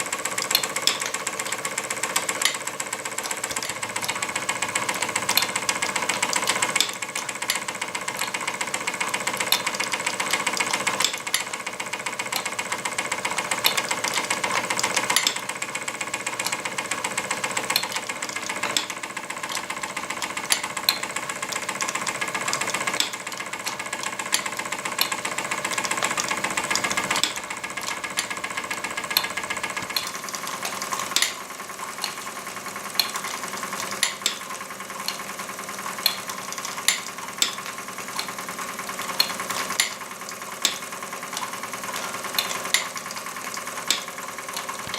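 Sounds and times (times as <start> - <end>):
louder mechanical click: 0.0 - 44.9
toy steam engine clattering: 0.0 - 44.9.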